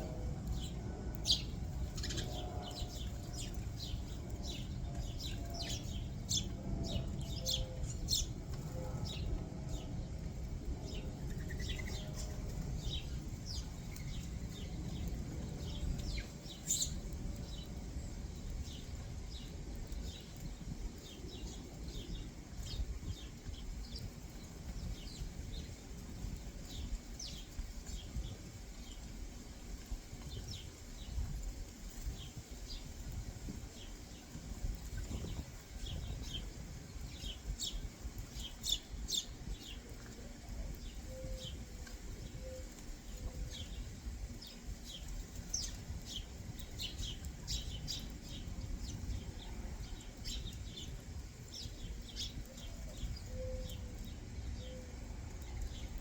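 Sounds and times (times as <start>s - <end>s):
low steady rumble: 0.0s - 56.0s
songbirds chirping: 0.0s - 56.0s.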